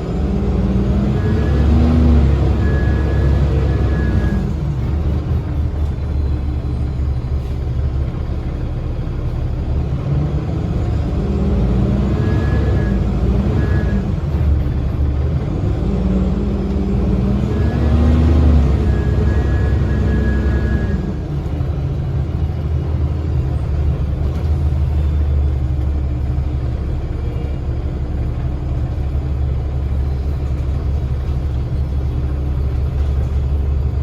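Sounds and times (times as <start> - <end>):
bus diesel engine rumbling: 0.0 - 34.0.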